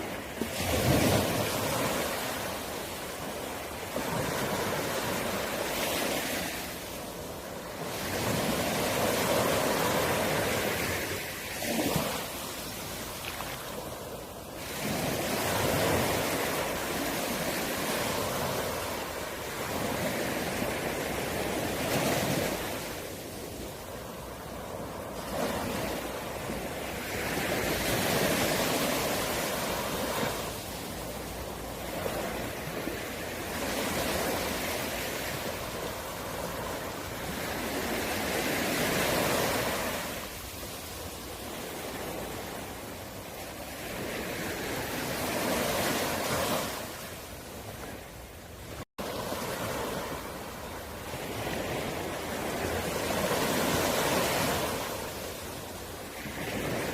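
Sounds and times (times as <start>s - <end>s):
sea waves breaking: 0.0s - 56.9s.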